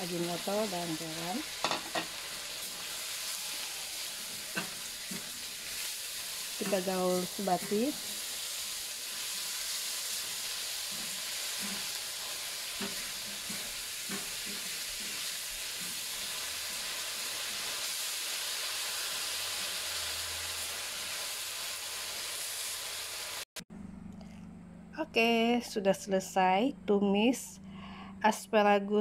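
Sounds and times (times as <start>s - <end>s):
vegetables sizzling in a wok: 0.0s - 23.5s
spatula scraping wok: 0.1s - 23.4s.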